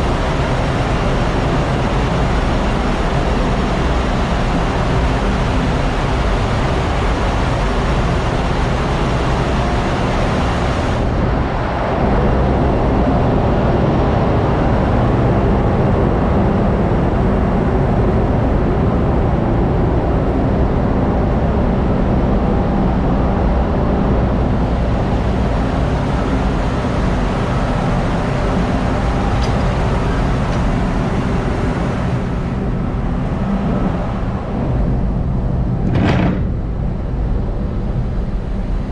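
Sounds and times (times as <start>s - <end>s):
engine room machinery running: 0.0s - 38.9s.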